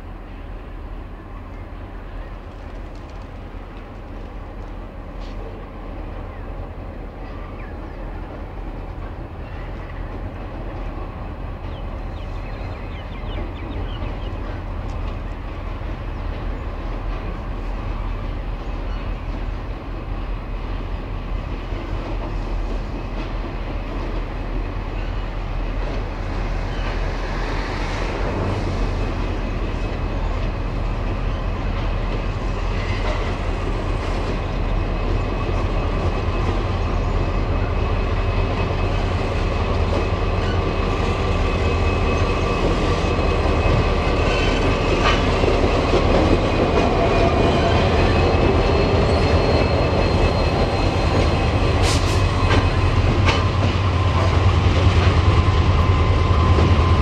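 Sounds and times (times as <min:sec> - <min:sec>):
diesel locomotive engines droning: 0:00.0 - 0:57.0.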